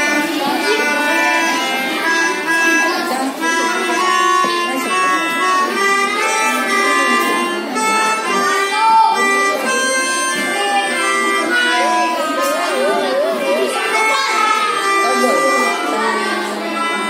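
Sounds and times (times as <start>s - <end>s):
melodicas playing a tune: 0.0s - 17.0s.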